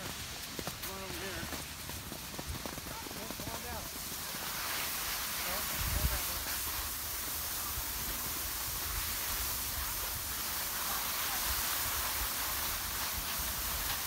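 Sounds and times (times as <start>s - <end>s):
skis sliding over packed snow: 0.0s - 14.0s.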